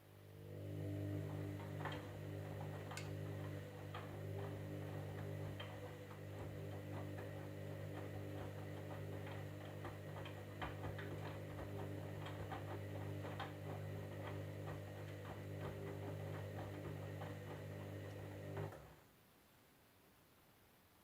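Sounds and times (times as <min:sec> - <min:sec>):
washing machine humming: 0:00.0 - 0:19.1.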